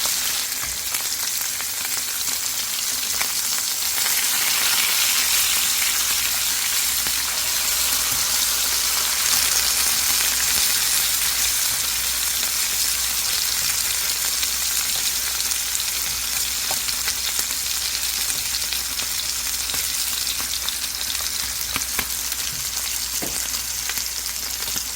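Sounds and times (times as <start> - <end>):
meat sizzling on grill: 0.0 - 24.9.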